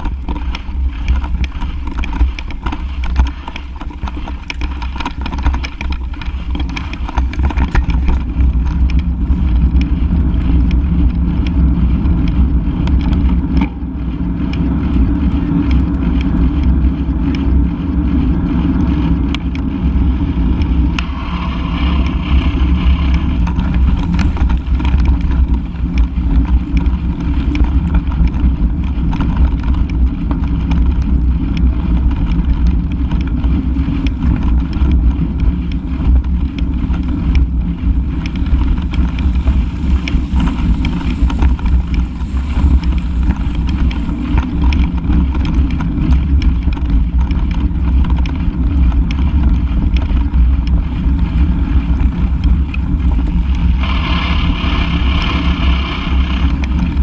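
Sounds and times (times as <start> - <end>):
wind buffeting on camera: 0.0 - 57.0.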